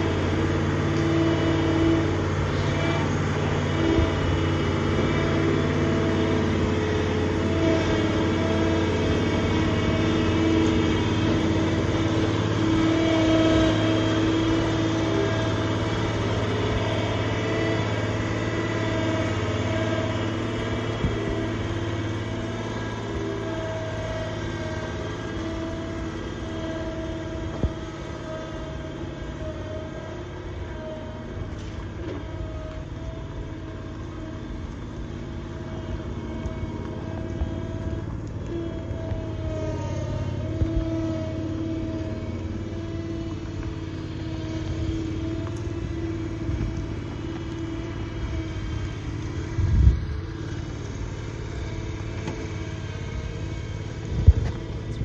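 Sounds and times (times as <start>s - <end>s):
tractor engine running: 0.0s - 55.0s
trailer rolling over gravel: 0.0s - 55.0s.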